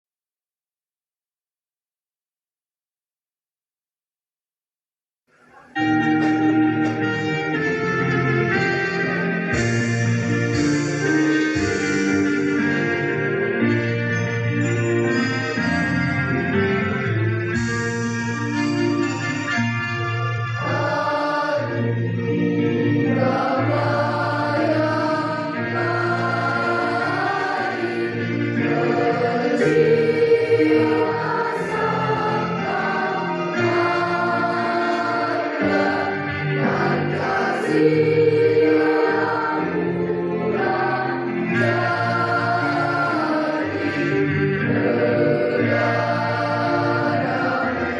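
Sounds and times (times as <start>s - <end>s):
choir singing long notes: 5.5s - 47.9s.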